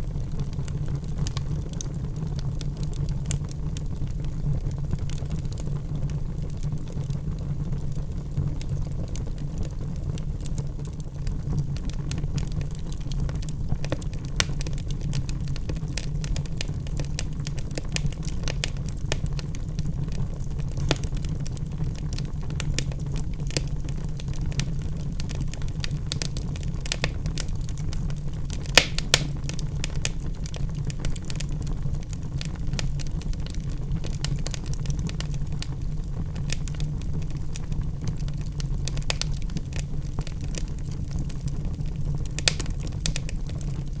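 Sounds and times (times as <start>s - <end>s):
fire flames rumbling: 0.0s - 44.0s
logs crackling and popping: 0.0s - 44.0s.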